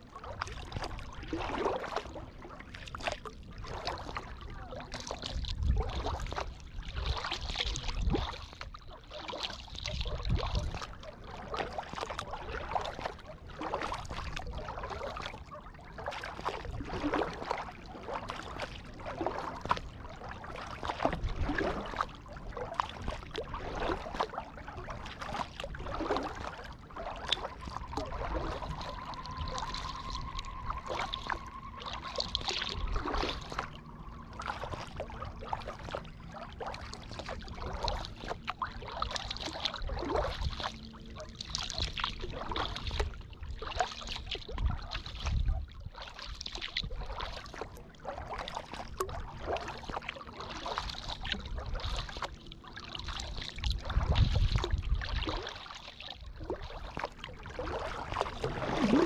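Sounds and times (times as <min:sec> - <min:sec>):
kayak paddle splashes: 0:00.0 - 0:59.0
water lapping at hull: 0:00.0 - 0:59.0
water trickling off paddle: 0:00.0 - 0:59.0.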